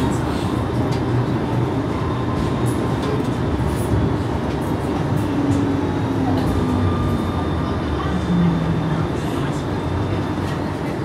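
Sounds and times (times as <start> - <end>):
tram rumble and hum: 0.0 - 11.0.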